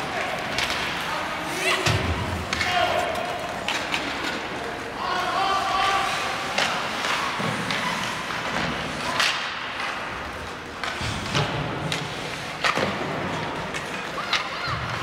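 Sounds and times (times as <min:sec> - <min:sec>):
hockey sticks and puck knocking: 0:00.0 - 0:04.6, 0:06.0 - 0:15.0.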